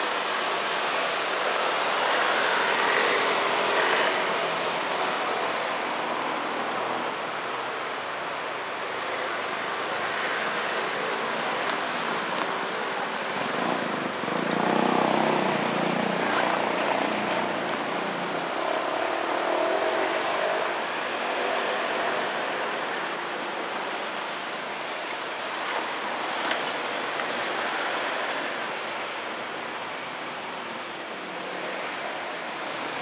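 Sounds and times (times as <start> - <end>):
steady traffic noise: 0.0 - 33.0.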